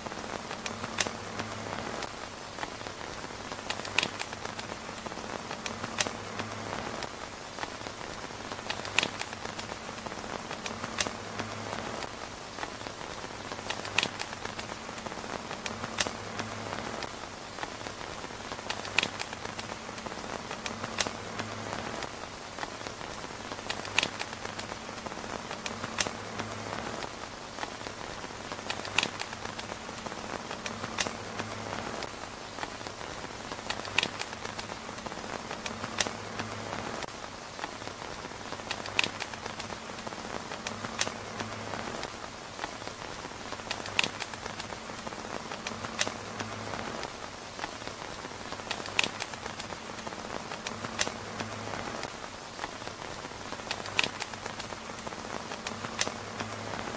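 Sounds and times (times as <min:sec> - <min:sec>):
rain pattering on a tent: 0:00.0 - 0:56.9.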